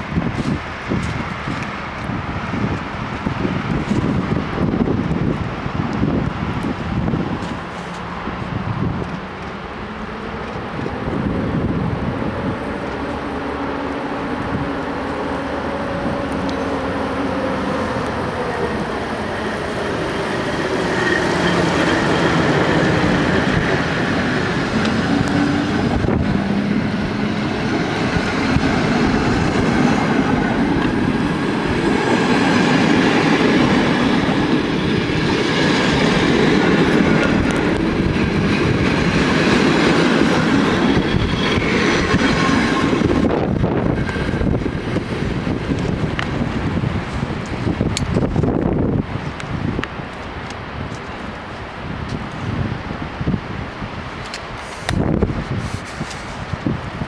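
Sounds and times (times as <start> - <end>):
train coaches rolling past: 0.0 - 57.0.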